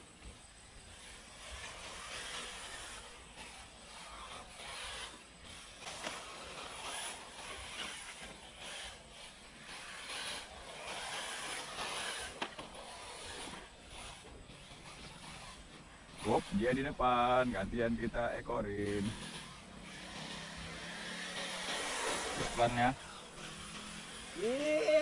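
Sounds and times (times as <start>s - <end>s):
rc car drivetrains whirring: 0.0s - 25.0s
tyres scrabbling on dirt: 0.0s - 25.0s.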